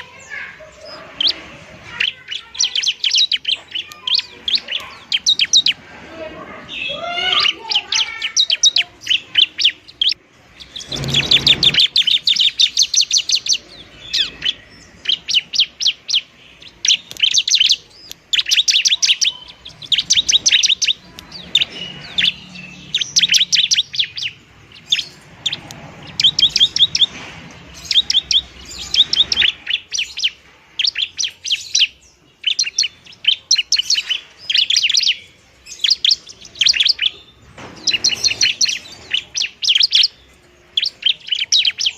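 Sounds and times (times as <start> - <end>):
bird singing high trills: 0.0 - 5.8, 6.6 - 41.9.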